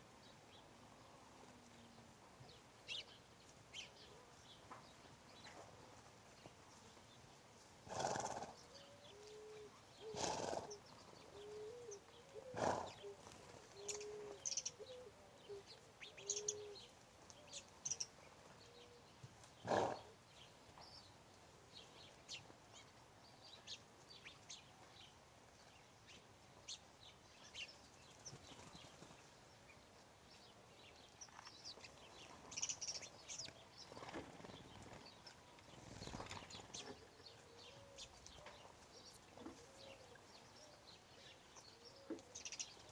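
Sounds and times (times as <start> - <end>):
small birds chirping: 0.2 - 42.9.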